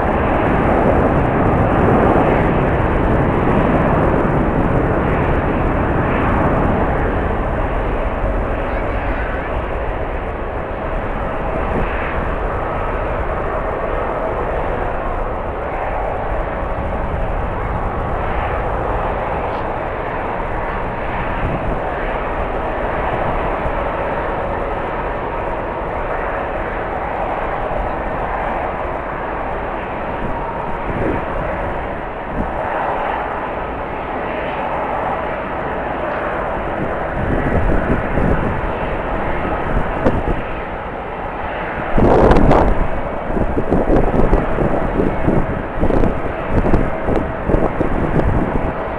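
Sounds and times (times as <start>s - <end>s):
jet engines running with whine: 0.0s - 48.9s
wind buffeting microphone: 0.0s - 48.9s.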